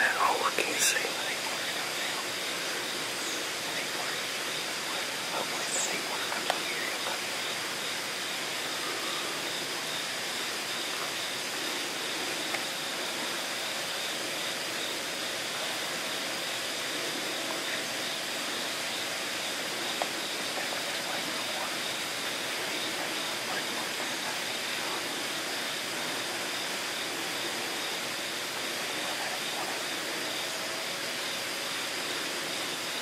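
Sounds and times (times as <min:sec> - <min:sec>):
woodland background hiss: 0:00.0 - 0:33.0.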